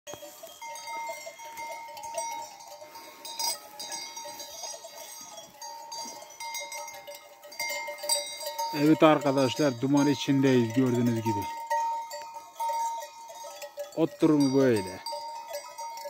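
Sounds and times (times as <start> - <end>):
sheep bells clanking: 0.1 - 16.0.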